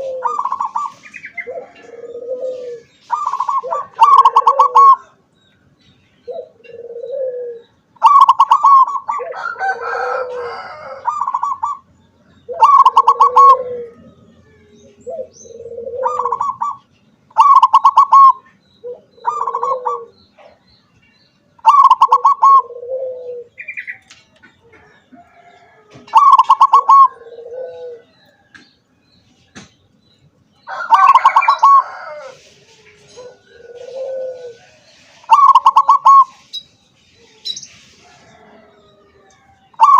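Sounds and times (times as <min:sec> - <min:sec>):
dove cooing: 0:00.0 - 0:05.3, 0:06.2 - 0:20.6, 0:21.6 - 0:28.5, 0:30.7 - 0:36.5, 0:37.2 - 0:39.9.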